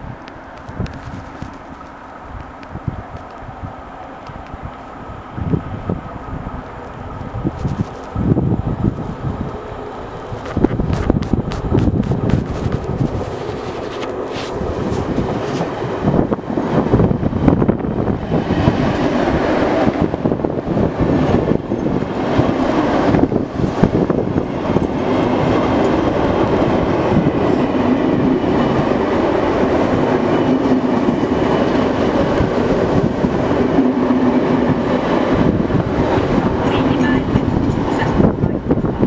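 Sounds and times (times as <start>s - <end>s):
train wheels on rails: 0.0s - 39.0s.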